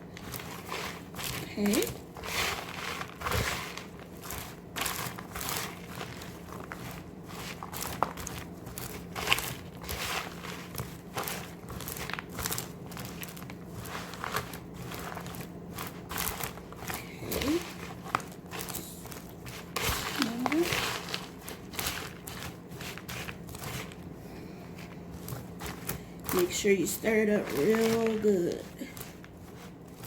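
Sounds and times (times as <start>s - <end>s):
crunchy popcorn stirred in bowl: 0.0s - 30.0s.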